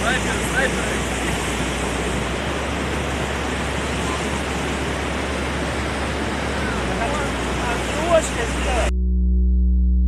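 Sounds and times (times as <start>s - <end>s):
waterfall rushing: 0.0s - 8.9s.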